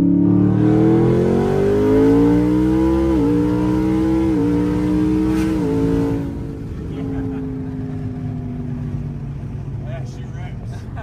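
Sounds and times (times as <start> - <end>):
engine accelerating hard: 0.0 - 11.0.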